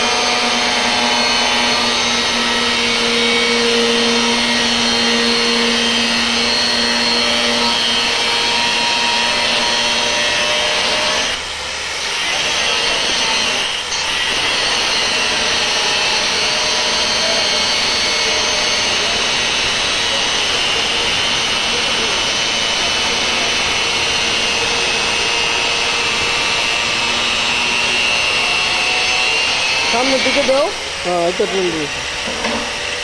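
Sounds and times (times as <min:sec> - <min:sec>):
metal sheet being cut: 0:00.0 - 0:11.4, 0:12.0 - 0:33.0.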